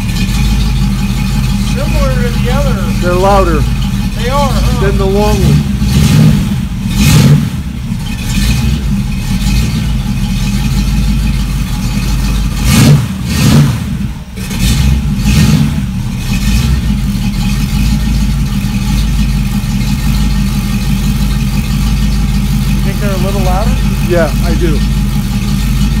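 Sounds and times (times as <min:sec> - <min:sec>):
engine idling and revving: 0:00.0 - 0:26.0.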